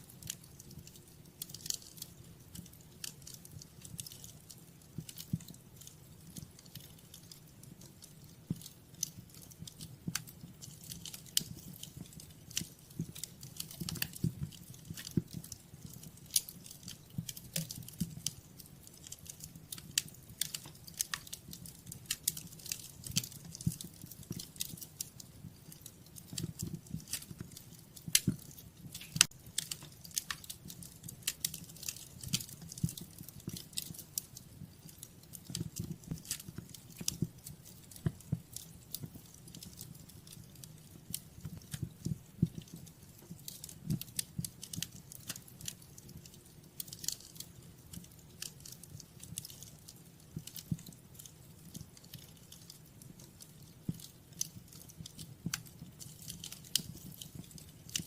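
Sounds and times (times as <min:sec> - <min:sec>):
low rumble of flames: 0:00.0 - 0:58.0
wood fire crackling and popping: 0:00.0 - 0:58.0.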